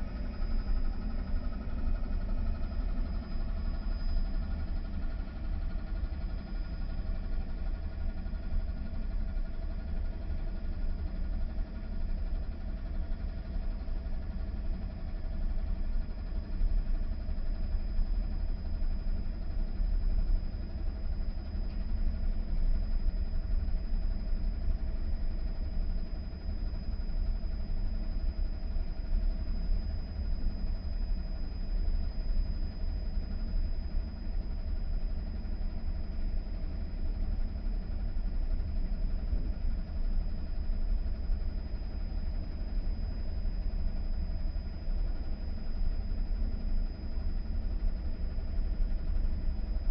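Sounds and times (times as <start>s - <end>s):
thin high whine: 0.0s - 8.2s, 17.4s - 49.9s.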